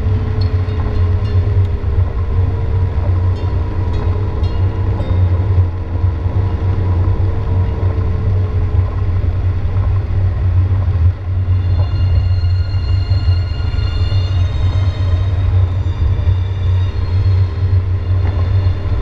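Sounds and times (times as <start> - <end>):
car driving on wet road: 0.0 - 19.0
faint hum: 0.0 - 19.0.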